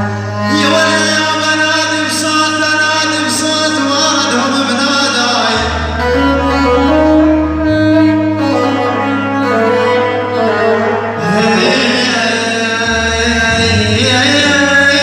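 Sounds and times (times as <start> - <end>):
sustained bass notes: 0.0 - 15.0
held melodic line: 0.1 - 15.0.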